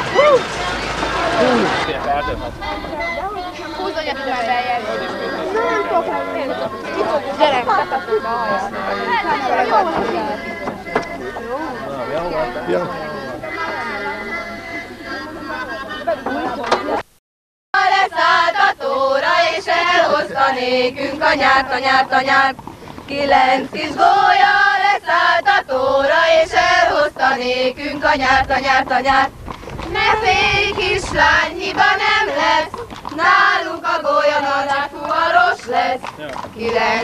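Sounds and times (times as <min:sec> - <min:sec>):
women singing in unison: 0:00.0 - 0:10.6, 0:17.8 - 0:37.0.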